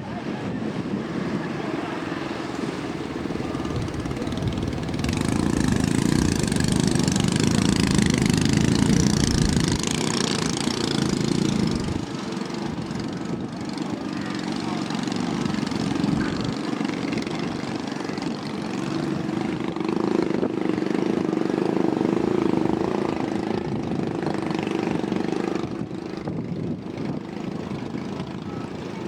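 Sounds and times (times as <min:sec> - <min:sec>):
engine running: 0:01.8 - 0:29.0.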